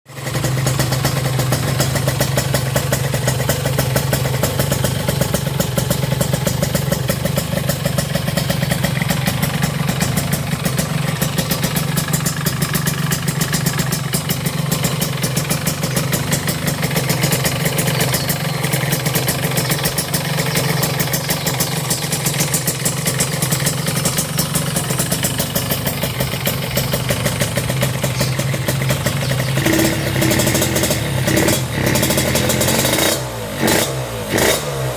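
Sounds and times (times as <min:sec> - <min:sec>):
two-stroke engine idling: 0:00.1 - 0:34.9.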